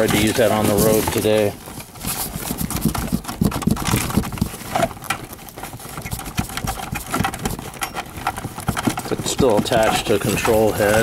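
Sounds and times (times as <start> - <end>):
cables knocking in cardboard box: 2.2 - 11.0.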